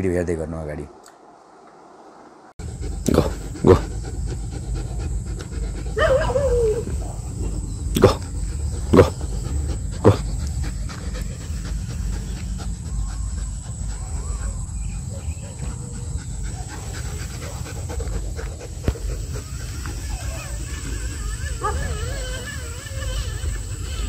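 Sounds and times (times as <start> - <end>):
dog panting: 2.6 - 24.0.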